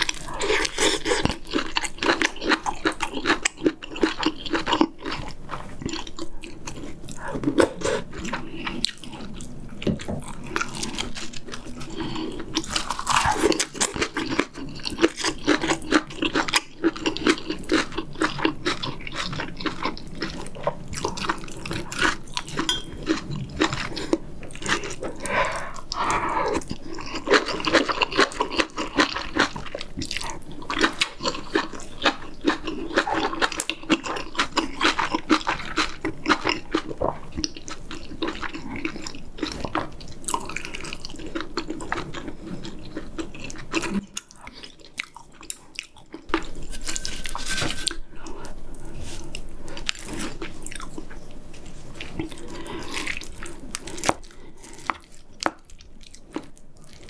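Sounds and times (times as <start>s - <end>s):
chewing and slurping: 0.0s - 57.0s.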